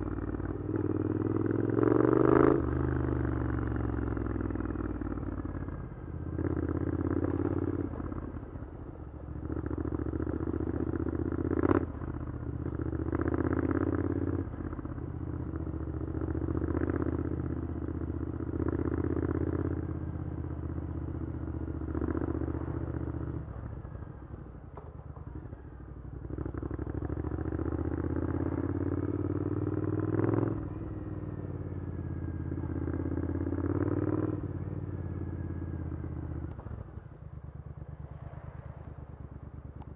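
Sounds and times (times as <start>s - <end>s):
motorcycle engine revving: 0.0s - 24.4s, 26.2s - 39.9s.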